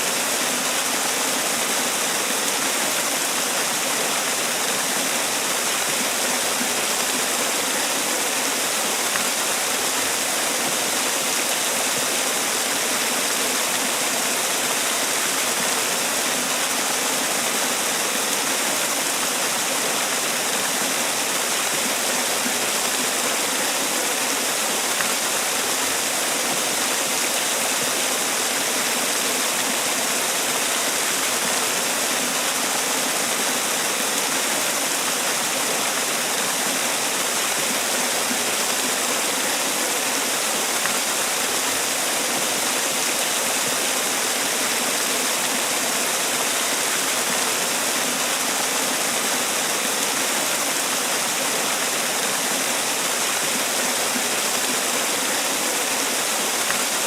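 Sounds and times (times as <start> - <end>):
waterfall splashing: 0.0 - 57.0.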